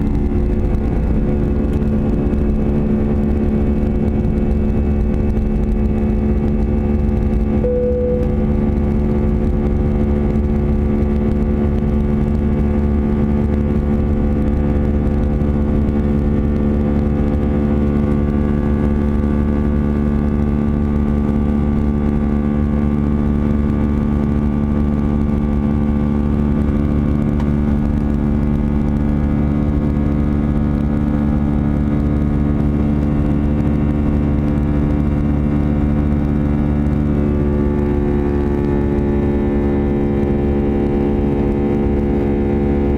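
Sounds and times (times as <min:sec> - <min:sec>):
jet engine drone in cabin: 0:00.0 - 0:42.9.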